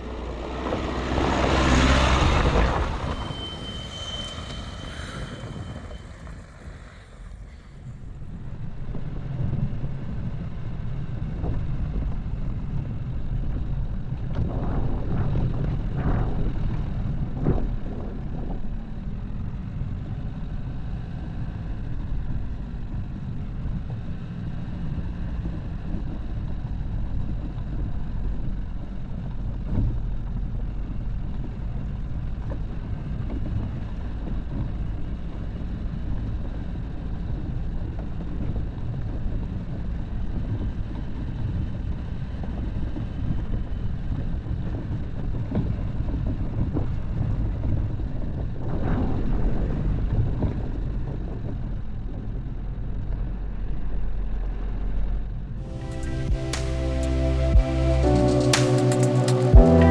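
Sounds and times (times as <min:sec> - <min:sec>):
car engine low rumble: 0:00.0 - 0:59.9.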